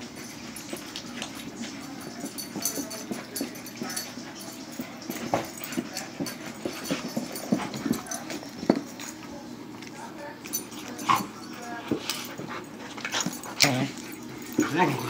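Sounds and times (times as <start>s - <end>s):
puppies scuffling: 0.0s - 15.0s.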